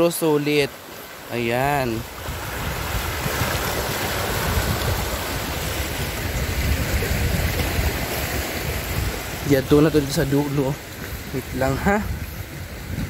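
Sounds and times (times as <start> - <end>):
sea waves on rocky shore: 0.0 - 13.0
wind buffeting microphone: 1.6 - 13.0.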